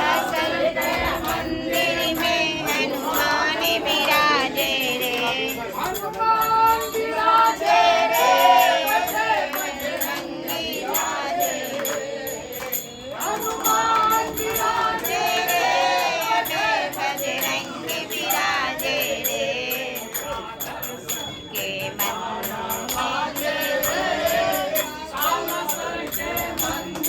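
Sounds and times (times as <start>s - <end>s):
group singing devotional song: 0.0s - 27.0s
jingling percussion: 0.0s - 27.0s.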